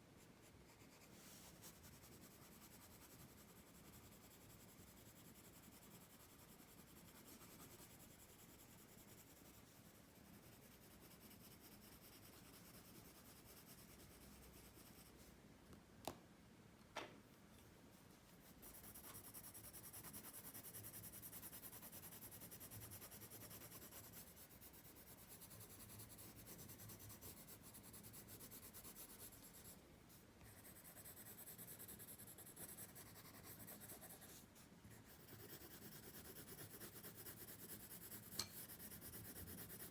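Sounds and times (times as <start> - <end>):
pencil scratching on paper: 0.5 - 15.3, 18.3 - 29.8, 30.4 - 39.9.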